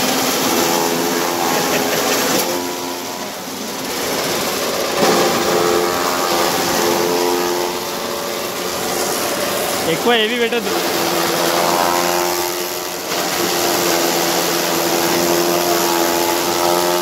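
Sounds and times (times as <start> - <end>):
chaff cutter motor hum: 0.0 - 17.0
cutting blades whirring: 0.0 - 17.0.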